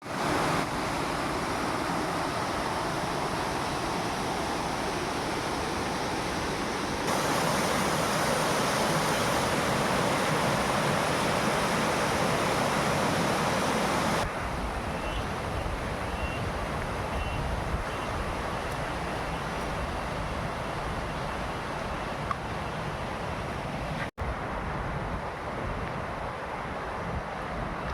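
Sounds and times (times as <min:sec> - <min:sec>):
flowing river water: 0:00.0 - 0:27.9.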